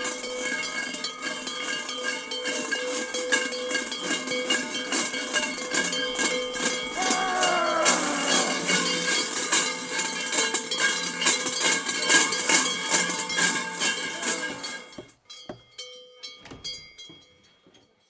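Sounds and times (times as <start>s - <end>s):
large bells clanging: 0.0s - 15.0s.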